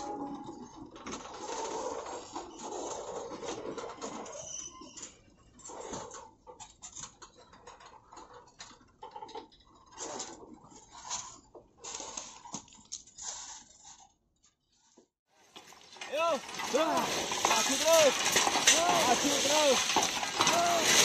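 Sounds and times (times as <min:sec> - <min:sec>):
irregular clicking and scraping: 0:00.0 - 0:21.0.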